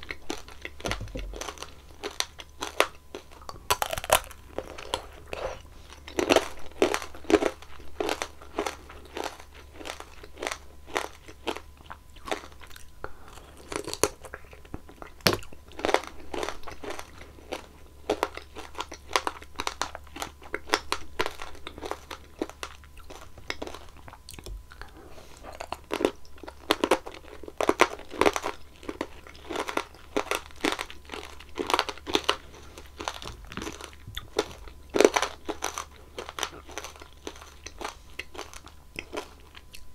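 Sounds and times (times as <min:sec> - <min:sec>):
hard candy crunching between teeth: 0:00.0 - 0:39.9
soft wet chewing: 0:00.0 - 0:39.9.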